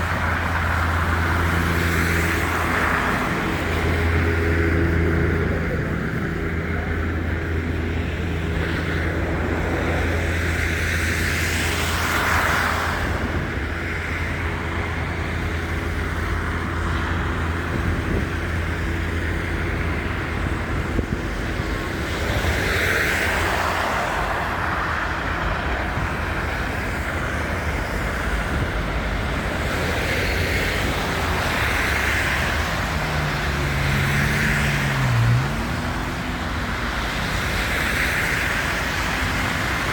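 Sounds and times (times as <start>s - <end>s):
cars passing: 0.0s - 39.9s
hum of traffic engines: 0.0s - 39.9s.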